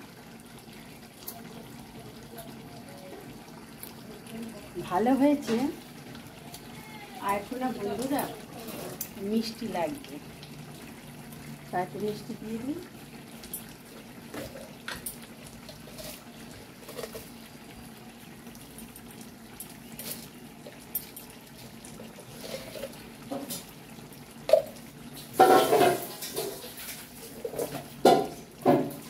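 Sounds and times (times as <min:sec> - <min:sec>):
curry simmering in wok: 0:00.0 - 0:29.0.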